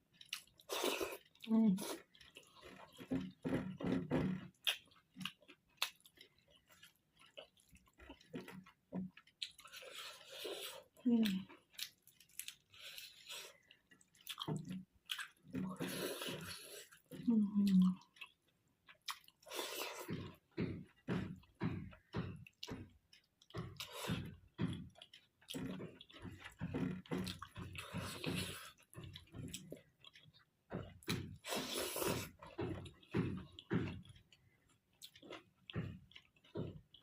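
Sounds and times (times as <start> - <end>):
wet chewing and lip-smacking: 0.0 - 37.0.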